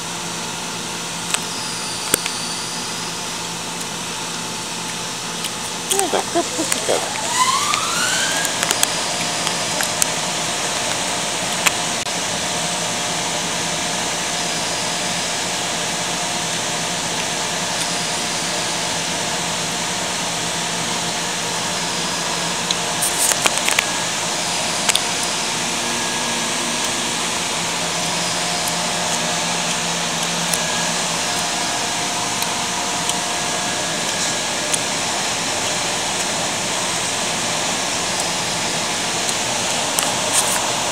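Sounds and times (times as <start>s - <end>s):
faint humming tones: 0.0s - 40.9s
machinery drone: 0.0s - 40.9s.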